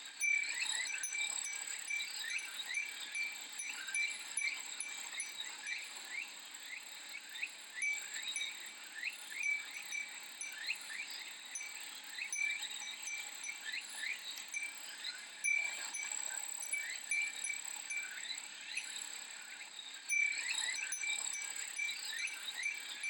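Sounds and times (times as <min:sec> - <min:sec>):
wind chime tinkling: 0:00.0 - 0:06.3, 0:07.7 - 0:19.4, 0:20.0 - 0:23.0.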